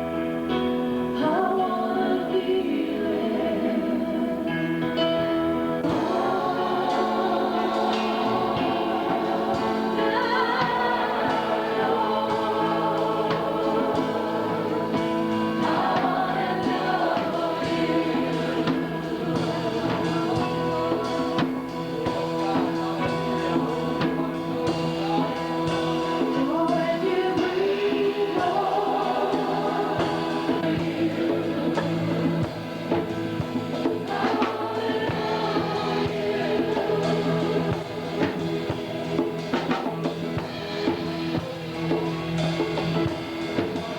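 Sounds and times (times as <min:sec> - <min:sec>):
gospel choir singing: 0:00.0 - 0:43.9
held accompaniment notes: 0:00.0 - 0:43.9.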